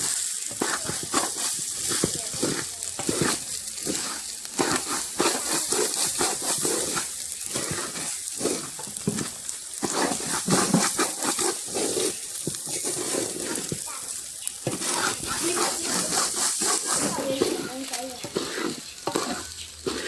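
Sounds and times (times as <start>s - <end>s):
rice sizzling in oil: 0.0s - 20.0s
spoon stirring and scraping pot: 0.0s - 20.0s.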